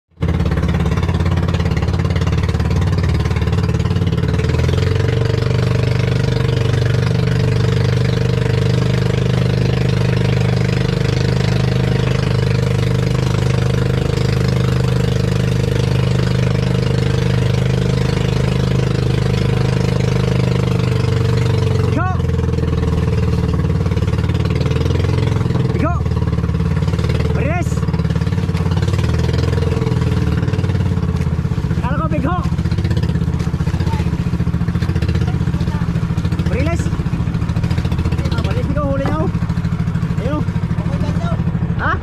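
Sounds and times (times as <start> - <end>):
boat engine running: 0.1 - 42.0
wind: 0.1 - 42.0.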